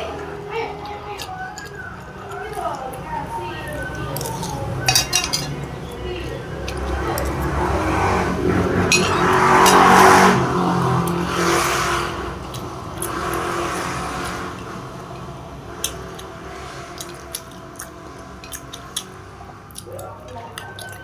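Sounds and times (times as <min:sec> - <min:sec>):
motor vehicle passing by: 0:00.0 - 0:21.0.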